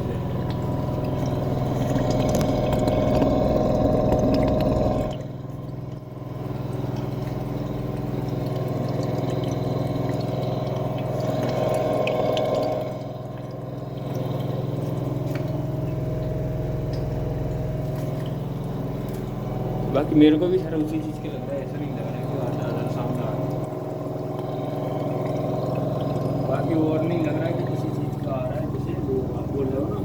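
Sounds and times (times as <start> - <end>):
washing machine motor whining: 0.0 - 30.0.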